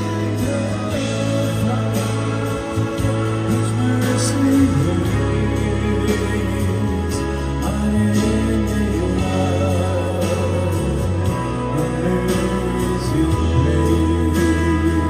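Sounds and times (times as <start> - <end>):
instrumental music with light beat: 0.0 - 15.0.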